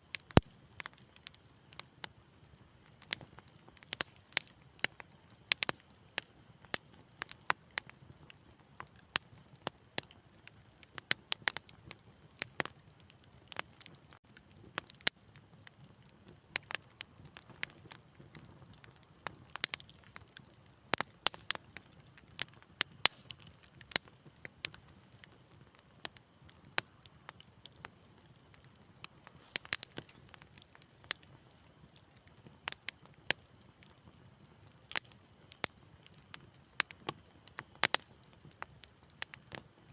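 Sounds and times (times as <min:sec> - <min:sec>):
soft hiss of flames: 0:00.0 - 0:39.9
wood fire crackling: 0:00.0 - 0:39.9.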